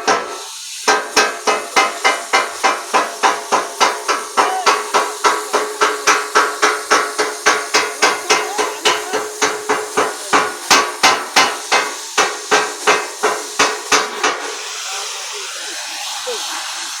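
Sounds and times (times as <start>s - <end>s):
hammer striking metal: 0.0s - 14.5s
steady hiss: 0.0s - 17.0s.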